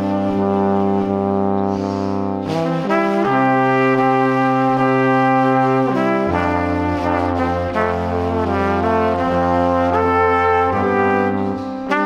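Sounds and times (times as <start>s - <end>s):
brass-like held chords: 0.0s - 12.0s.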